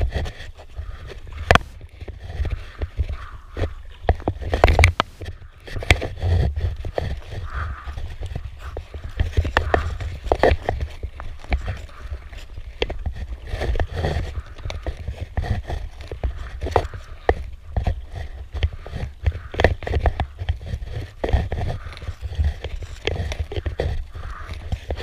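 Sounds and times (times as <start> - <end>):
sharp clicks and knocks: 0.0 - 25.0
wind rumble on microphone: 0.0 - 25.0.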